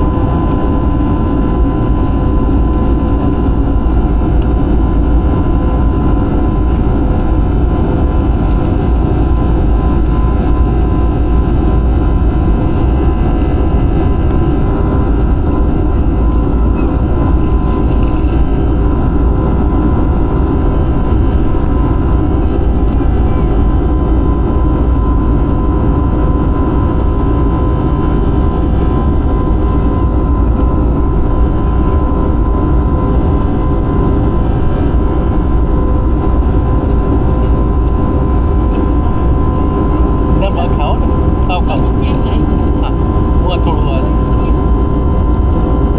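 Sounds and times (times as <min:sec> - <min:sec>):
airliner engines roaring in cabin: 0:00.0 - 0:45.9.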